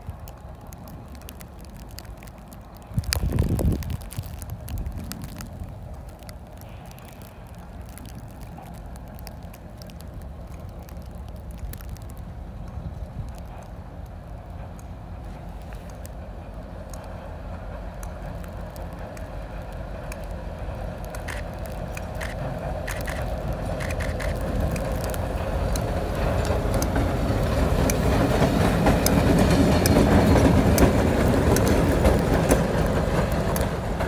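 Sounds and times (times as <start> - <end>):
diesel locomotive rumble: 0.0 - 34.0
rush of snow: 0.0 - 34.0.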